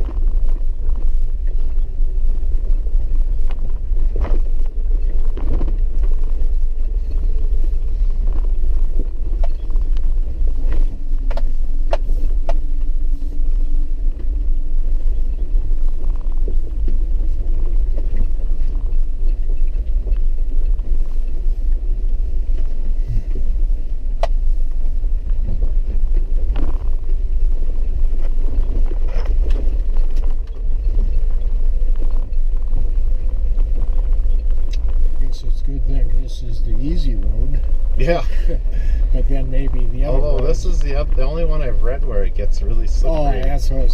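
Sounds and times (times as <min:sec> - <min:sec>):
vehicle driving over dirt road: 0:00.0 - 0:43.9.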